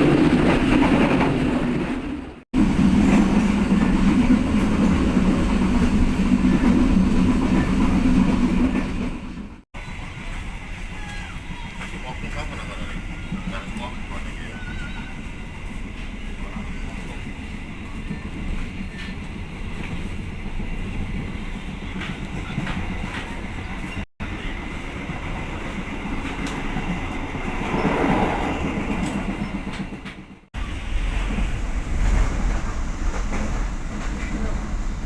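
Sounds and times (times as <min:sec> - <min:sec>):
train rumbling with wheel clatter: 0:00.0 - 0:35.0.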